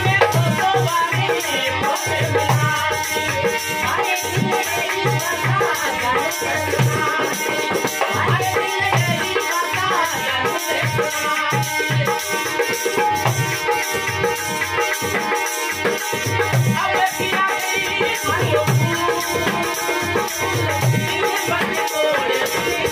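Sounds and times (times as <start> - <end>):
hand drum beat: 0.0 - 22.9
harmonium: 0.0 - 22.9.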